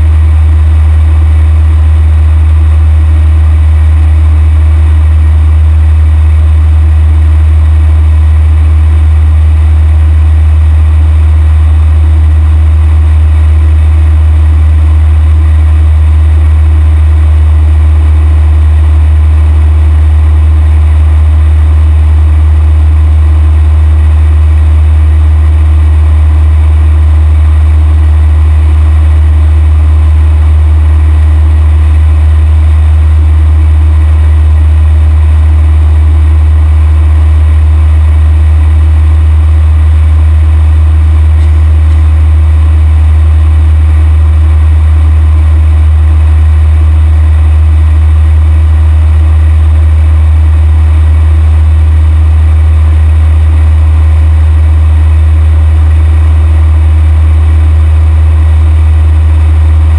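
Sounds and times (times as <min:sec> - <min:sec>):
light aircraft engine drone: 0:00.0 - 0:58.2.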